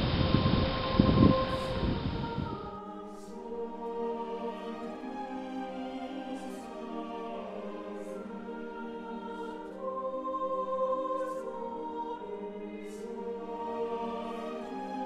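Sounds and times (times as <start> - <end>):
choir singing sustained chords: 0.0 - 15.0.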